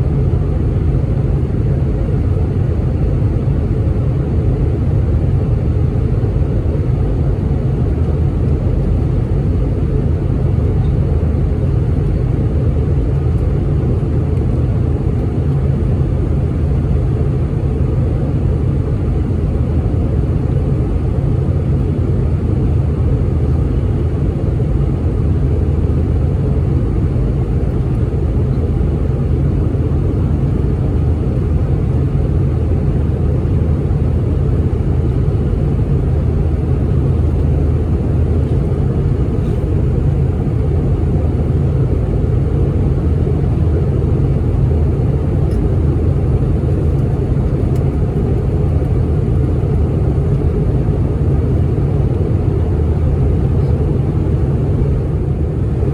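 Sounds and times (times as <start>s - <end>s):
jet airliner cabin roar: 0.0s - 55.9s.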